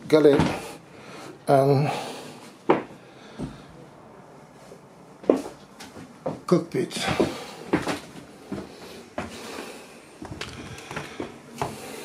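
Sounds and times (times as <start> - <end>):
footsteps in a small cabin: 0.0 - 12.0.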